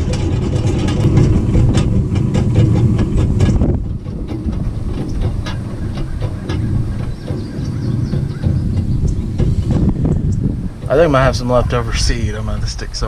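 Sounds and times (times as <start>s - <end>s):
rattling clicks of mower: 0.0s - 13.0s
tractor engine under load: 0.0s - 13.0s.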